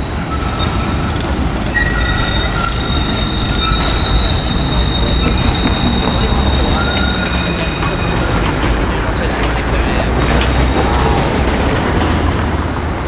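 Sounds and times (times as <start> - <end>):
tram wheels squealing: 0.0 - 13.0
low rolling rumble: 0.8 - 13.0.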